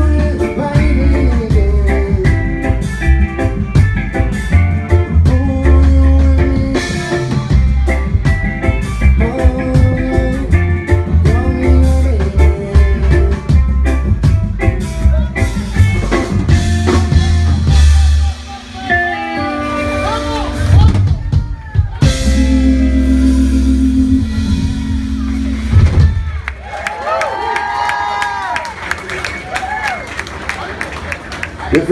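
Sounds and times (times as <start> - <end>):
pulsing bass line: 0.0 - 26.6
reggae band playing: 0.0 - 31.9.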